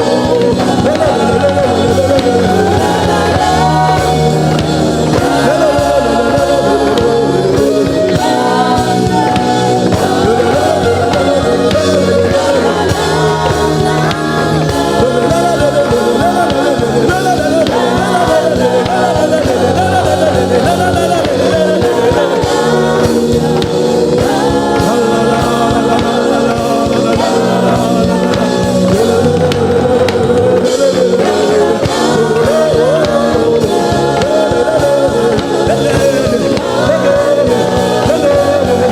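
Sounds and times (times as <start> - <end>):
gospel singing with band: 0.0 - 38.9.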